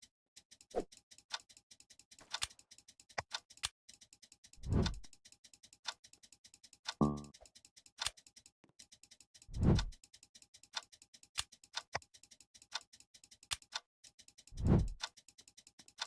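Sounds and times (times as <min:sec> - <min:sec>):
clock-like ticks: 0:00.0 - 0:16.0.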